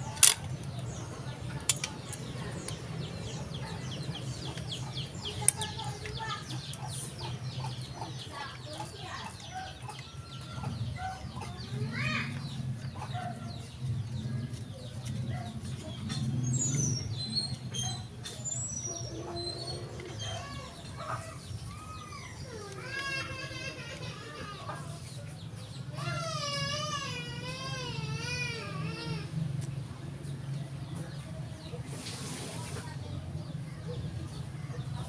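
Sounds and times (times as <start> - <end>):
birds chirping and clucking: 0.0 - 26.3, 29.3 - 35.0.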